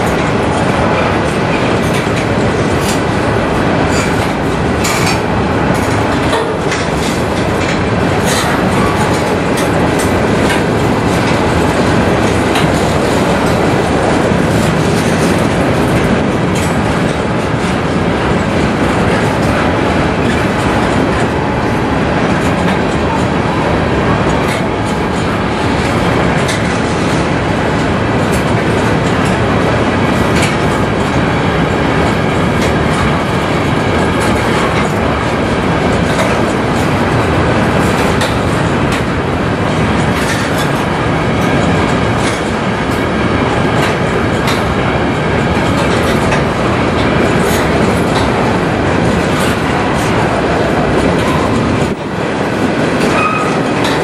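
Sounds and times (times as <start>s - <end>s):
clickety-clack at rail joints: 0.0s - 54.0s
train wheels rumbling on rails: 0.0s - 54.0s.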